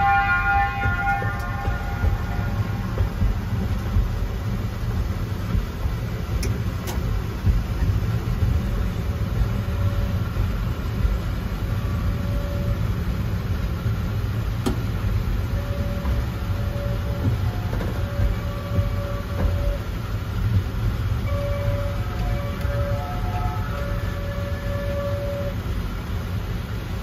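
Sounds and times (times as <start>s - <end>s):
miniature train rumbling: 0.0s - 27.0s.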